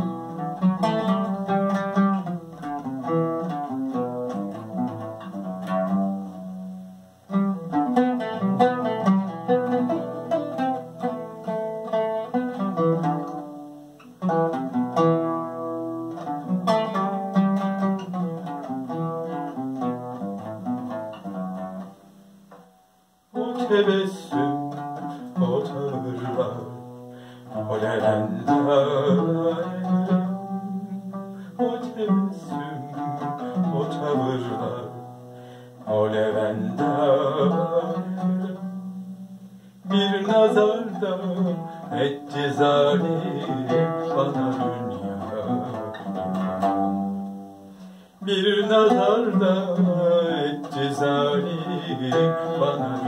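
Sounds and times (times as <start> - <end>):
oud playing plucked notes: 0.0 - 53.0.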